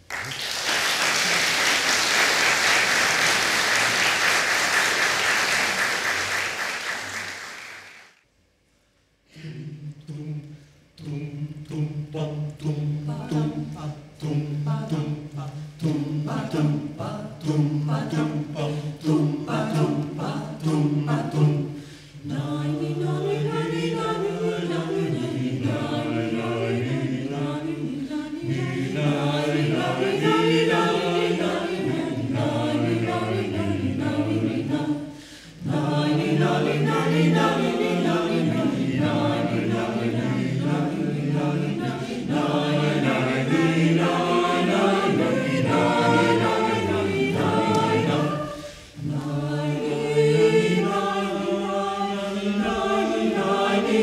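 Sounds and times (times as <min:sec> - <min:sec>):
mixed choir singing a cappella: 0:09.3 - 0:54.0.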